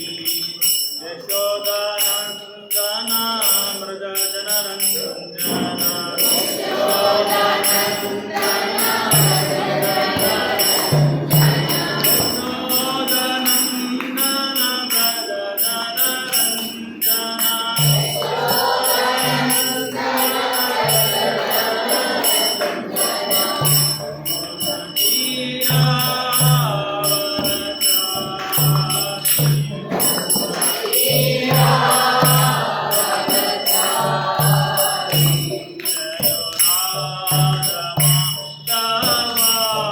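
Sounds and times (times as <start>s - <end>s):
devotional chanting: 0.0s - 39.9s
hand cymbals ringing: 0.0s - 39.9s.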